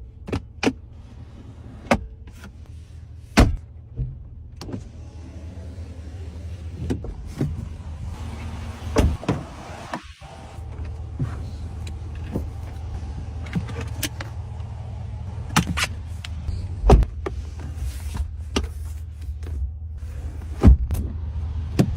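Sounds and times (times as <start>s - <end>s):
truck low running hum: 0.0s - 21.9s.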